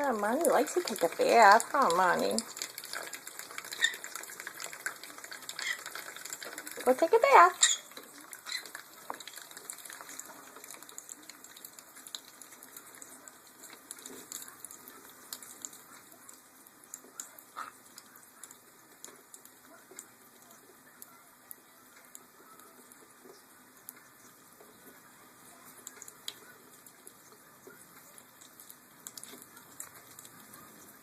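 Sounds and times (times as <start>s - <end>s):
light ticks of fluttering: 0.3s - 31.0s.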